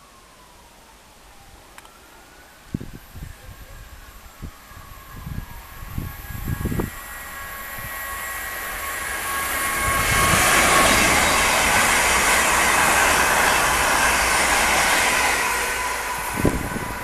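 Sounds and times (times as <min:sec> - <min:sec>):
train wheel and track noise: 0:02.7 - 0:17.0.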